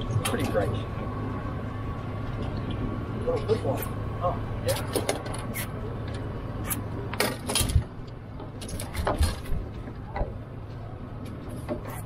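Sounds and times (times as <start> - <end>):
boat motor hum: 0.0 - 12.0.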